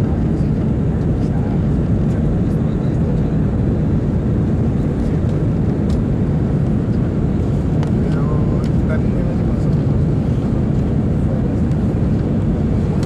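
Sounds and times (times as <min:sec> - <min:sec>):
airliner cabin engine rush: 0:00.0 - 0:13.0.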